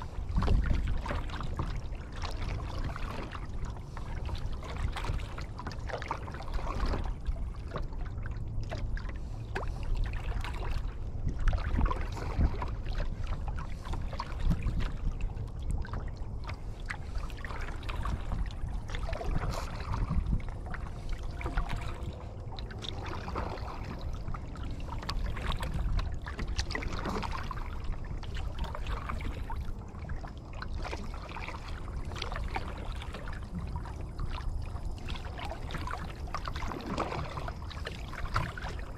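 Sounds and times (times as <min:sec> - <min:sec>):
paddle splashing in water: 0:00.0 - 0:38.9
steady low rumble: 0:00.0 - 0:38.9
water trickling off paddle: 0:00.0 - 0:38.9.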